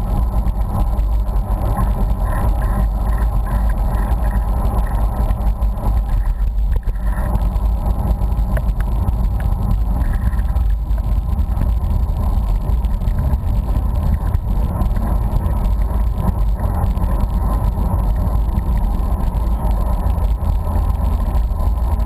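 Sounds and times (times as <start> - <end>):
wind and road noise on microphone: 0.0 - 22.0.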